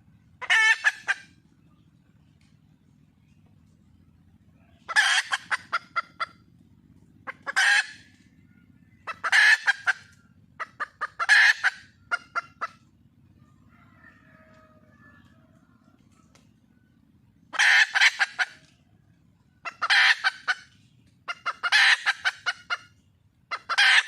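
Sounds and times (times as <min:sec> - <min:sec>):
junglefowl hen calling: 0:00.2 - 0:01.8, 0:04.4 - 0:24.0.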